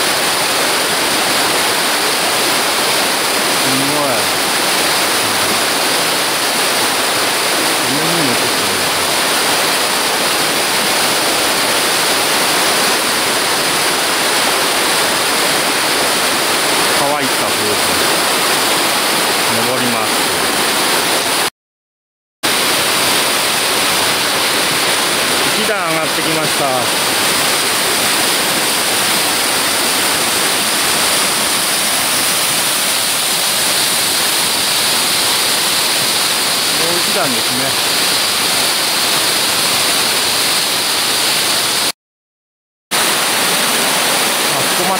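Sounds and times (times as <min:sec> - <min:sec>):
water cascading over rock: 0:00.0 - 0:21.5, 0:22.5 - 0:41.9, 0:43.0 - 0:44.9.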